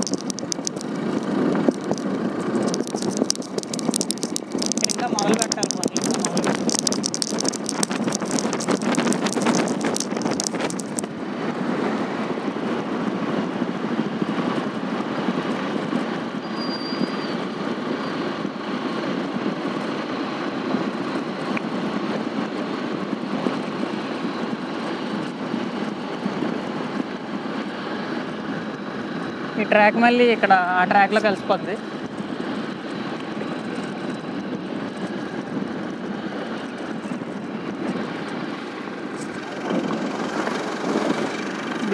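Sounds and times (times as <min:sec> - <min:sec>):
vehicle running noise and wind: 0:00.0 - 0:41.9.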